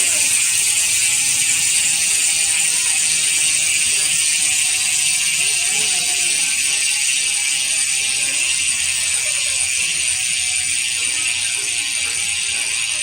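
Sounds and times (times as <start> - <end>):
bicycle hub ratchet buzzing: 0.0 - 13.0.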